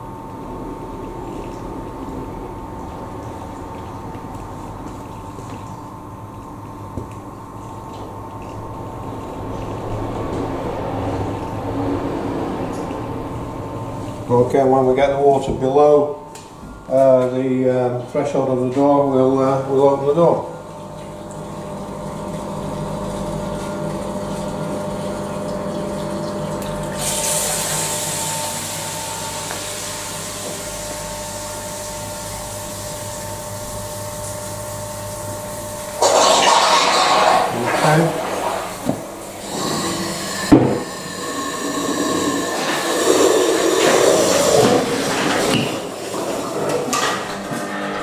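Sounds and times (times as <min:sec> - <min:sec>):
pumps humming: 0:00.0 - 0:48.0
water noise: 0:00.7 - 0:15.0, 0:17.4 - 0:47.4.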